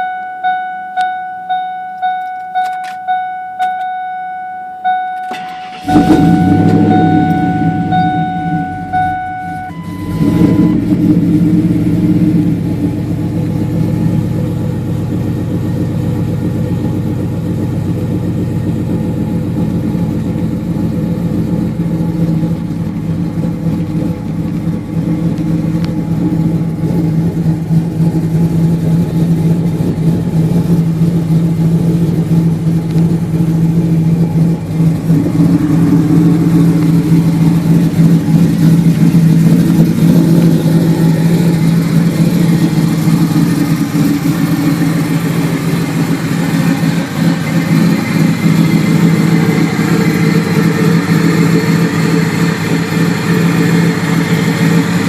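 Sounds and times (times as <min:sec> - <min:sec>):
supercharged truck engine idling: 0:00.0 - 0:55.0.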